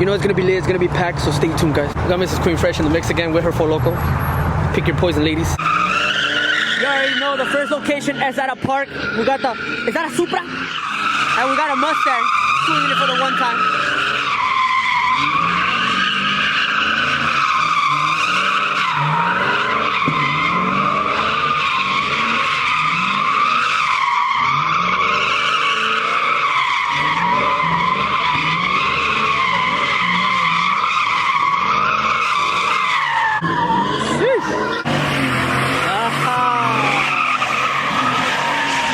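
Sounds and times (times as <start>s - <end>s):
car engine revving: 0.0s - 38.9s
tyres squealing: 5.4s - 38.9s.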